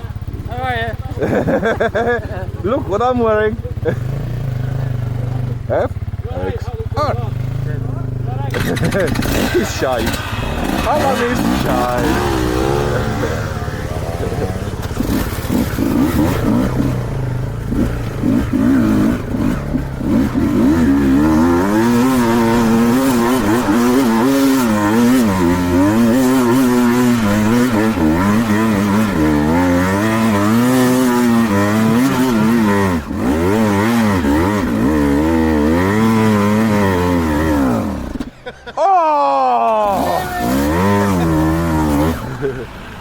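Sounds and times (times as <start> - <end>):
dirt bike engine revving: 0.0 - 38.8, 39.4 - 43.0.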